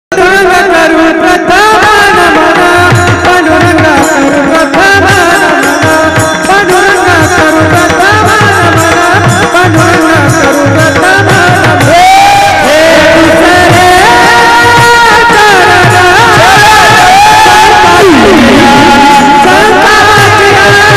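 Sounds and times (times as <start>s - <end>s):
man singing devotional melody: 0.1s - 20.9s
drum steady rhythm: 1.8s - 20.9s.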